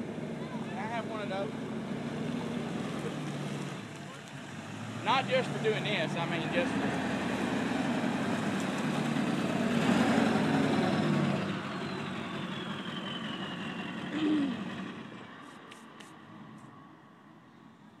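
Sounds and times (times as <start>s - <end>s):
pickup truck engine working hard: 0.0s - 15.3s.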